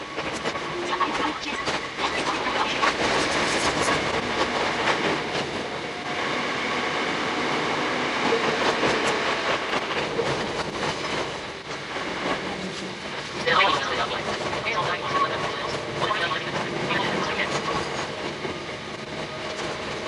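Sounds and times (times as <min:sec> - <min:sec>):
wheel-on-rail rumble: 0:00.0 - 0:20.0.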